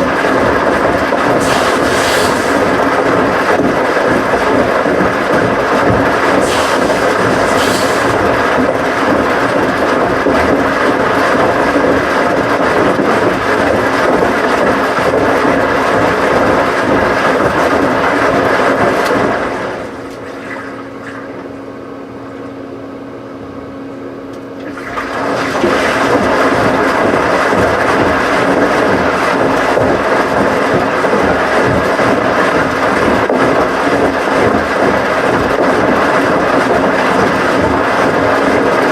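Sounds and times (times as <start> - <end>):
water rushing in washing machine: 0.0 - 22.0, 24.4 - 38.9
washing machine low hum: 0.0 - 38.9.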